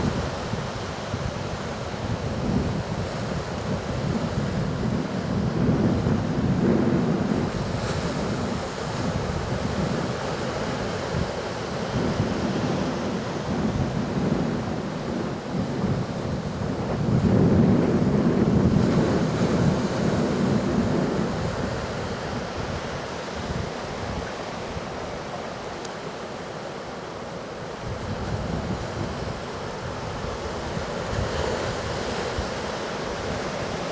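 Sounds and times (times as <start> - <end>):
wind blowing across microphone: 0.0 - 33.9.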